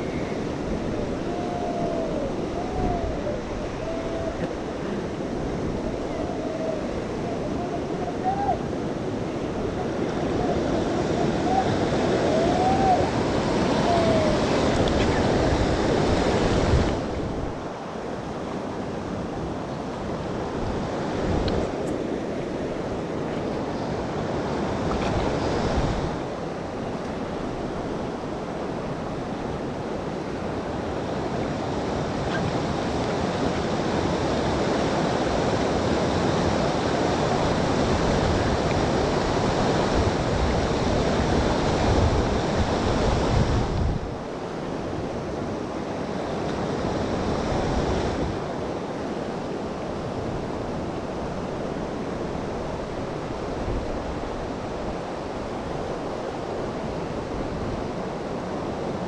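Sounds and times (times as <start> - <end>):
wind buffeting microphone: 0.0 - 48.8
river water rushing over rapid: 0.0 - 59.0.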